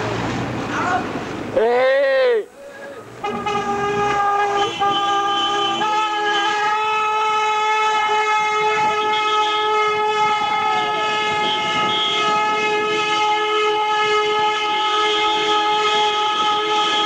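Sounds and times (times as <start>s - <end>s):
car horns blaring: 3.0s - 17.0s.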